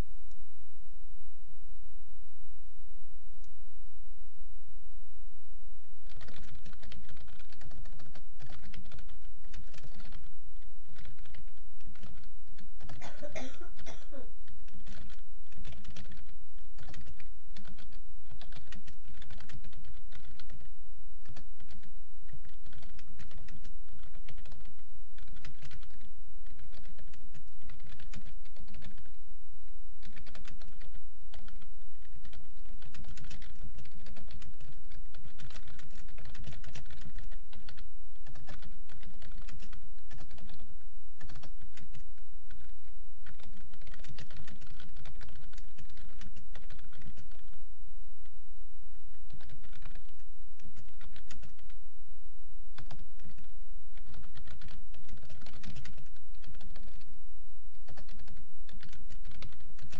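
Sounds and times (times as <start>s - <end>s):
steady low hum: 0.0s - 59.9s
computer keyboard typing: 6.0s - 29.2s, 30.0s - 47.6s, 49.2s - 51.8s, 52.7s - 57.2s, 57.8s - 59.9s.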